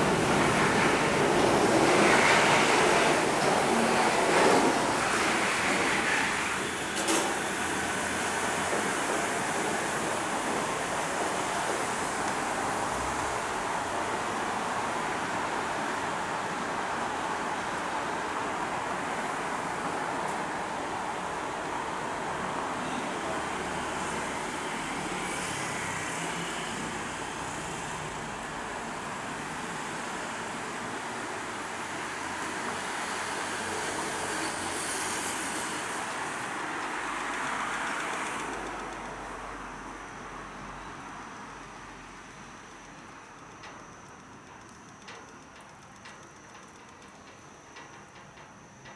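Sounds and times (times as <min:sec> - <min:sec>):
monorail train rushing: 0:00.0 - 0:43.4
road traffic noise: 0:00.0 - 0:43.4.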